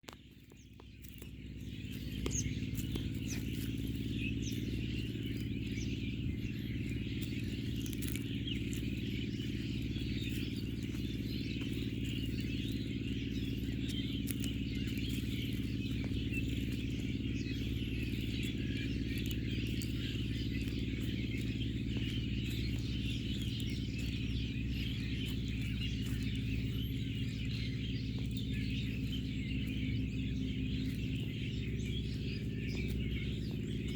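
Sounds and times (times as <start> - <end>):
birds chirping in chorus: 0.0 - 33.9
steady low hum: 0.0 - 33.9.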